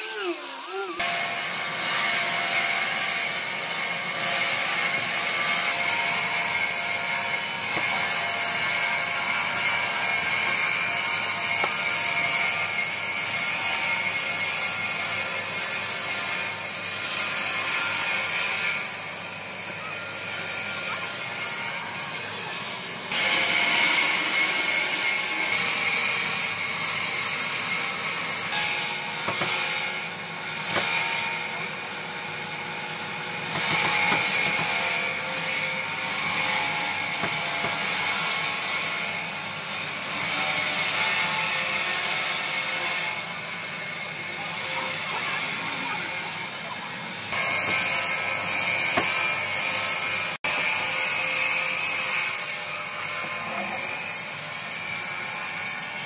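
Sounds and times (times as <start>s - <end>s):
power tool cutting wood: 0.0s - 56.0s.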